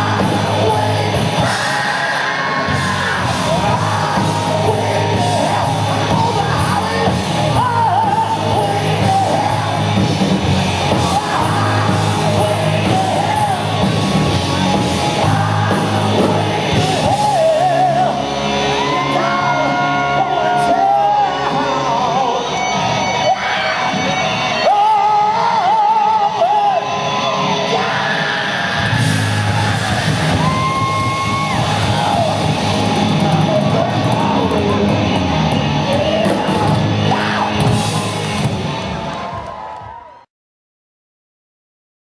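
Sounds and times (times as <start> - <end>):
rock music with singing: 0.0 - 40.1.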